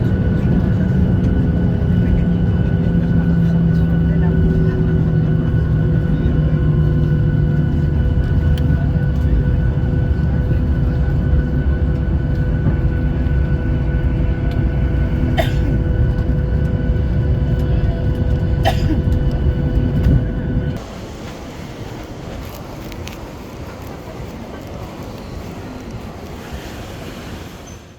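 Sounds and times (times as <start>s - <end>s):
airplane cabin engine rumble: 0.0s - 27.9s.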